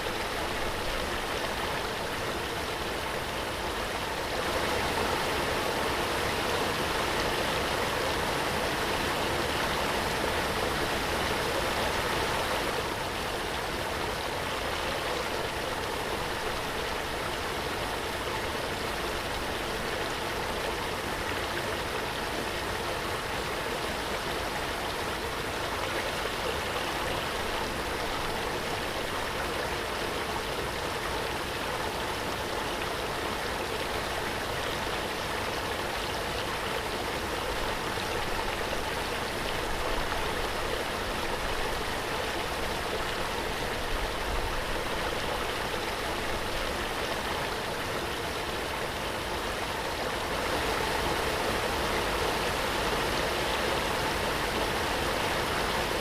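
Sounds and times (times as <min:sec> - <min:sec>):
rush of falling water: 0:00.0 - 0:56.0.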